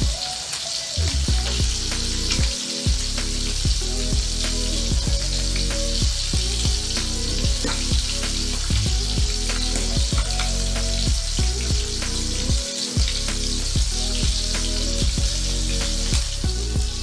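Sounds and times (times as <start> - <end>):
background music with beat: 0.0 - 17.0
fish sizzling in oil: 0.0 - 17.0.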